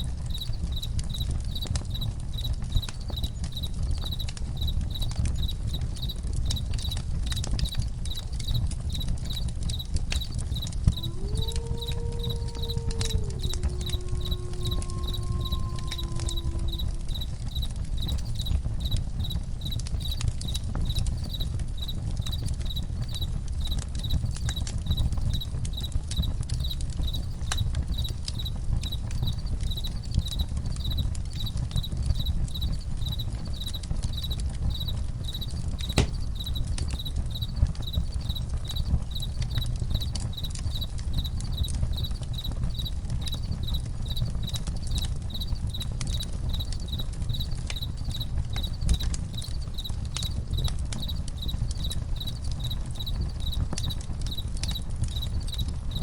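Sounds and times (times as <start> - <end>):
crickets chirping: 0.0 - 7.0, 7.6 - 56.0
campfire crackling and popping: 0.0 - 56.0.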